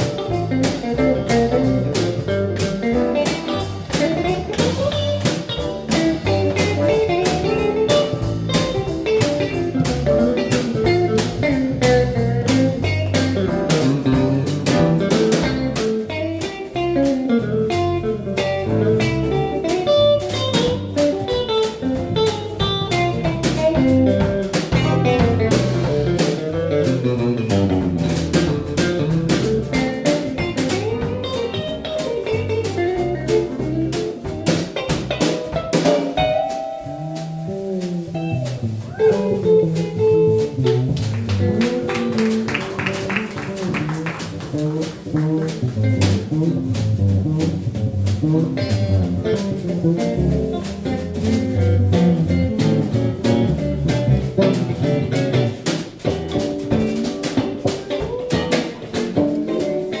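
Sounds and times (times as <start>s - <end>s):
jazz music: 0.0s - 60.0s.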